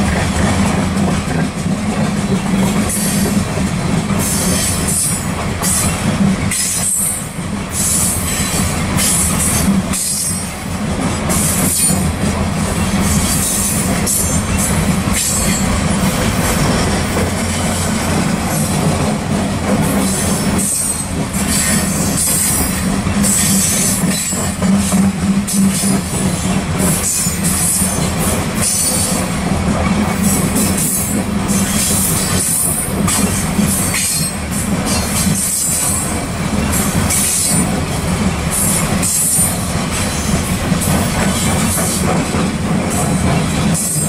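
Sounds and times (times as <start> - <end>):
steel wheels on rail: 0.0 - 44.0.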